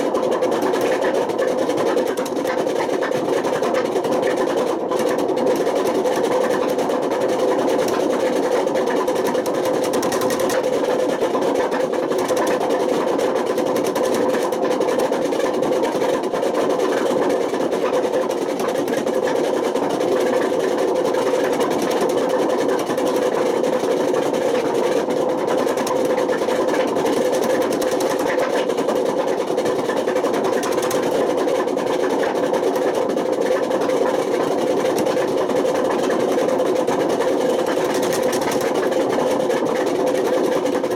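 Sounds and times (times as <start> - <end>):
washing machine grinding drone: 0.0 - 40.9.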